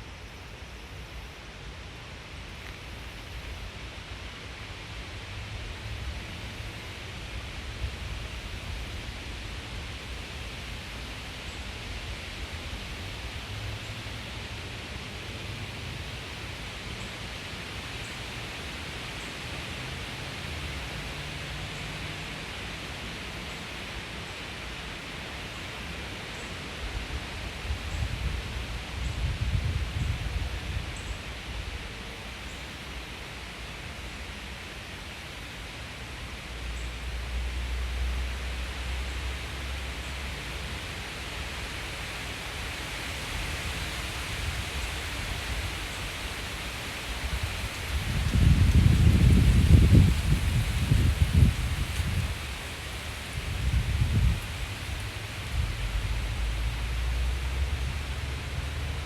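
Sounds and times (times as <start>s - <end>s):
steady outdoor hiss: 0.0s - 59.0s.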